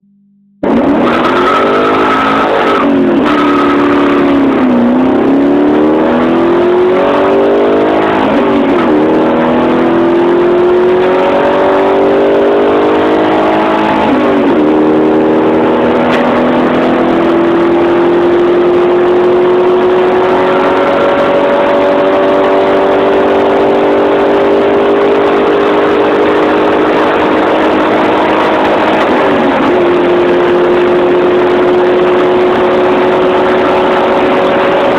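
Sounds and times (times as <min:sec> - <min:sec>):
car engine accelerating hard: 0:00.6 - 0:34.9.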